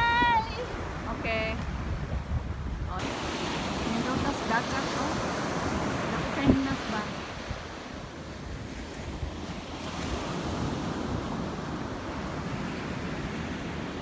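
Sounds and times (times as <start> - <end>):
sea waves washing onto beach: 0.0 - 14.0
wind buffeting microphone: 0.0 - 14.0.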